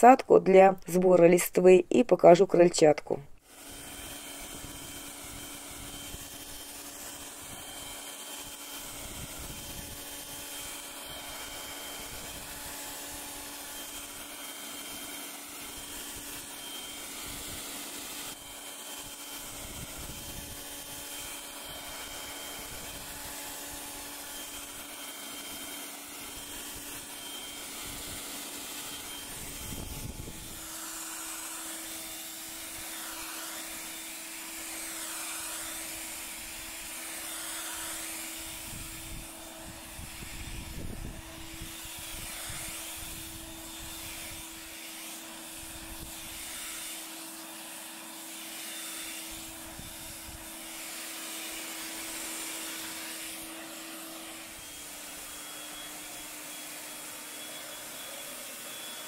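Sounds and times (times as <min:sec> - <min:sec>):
leaf blower running: 0:03.4 - 0:59.0.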